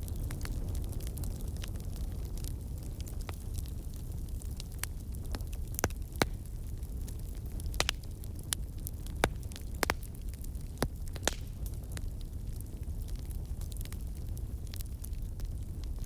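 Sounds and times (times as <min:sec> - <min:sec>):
low rumble of burning fire: 0:00.0 - 0:16.0
wood fire pops and snaps: 0:00.0 - 0:16.0.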